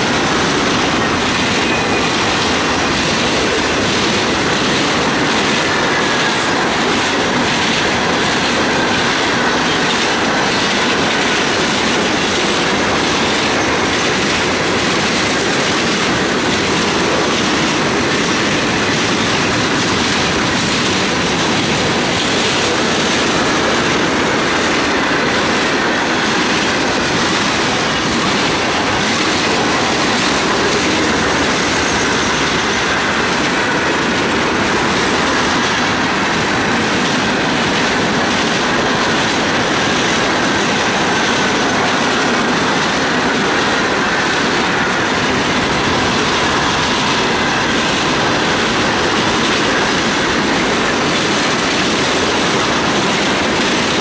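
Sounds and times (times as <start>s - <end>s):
wheel-on-rail clatter: 0.0s - 54.0s.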